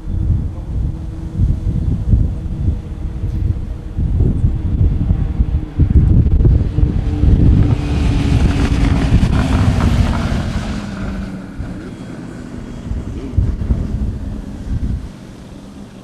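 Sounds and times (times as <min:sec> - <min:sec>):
jet engines hissing and whining: 0:00.0 - 0:16.0
wind buffeting microphone: 0:00.0 - 0:16.0.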